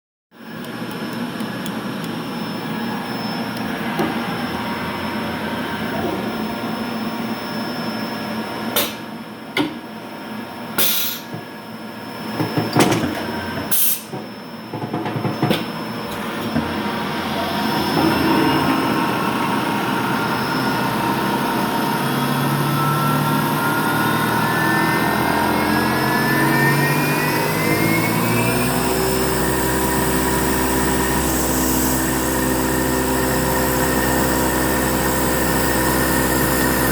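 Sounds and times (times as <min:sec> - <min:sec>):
milling machine humming: 0:00.4 - 0:36.9
spindle whine: 0:00.4 - 0:36.9.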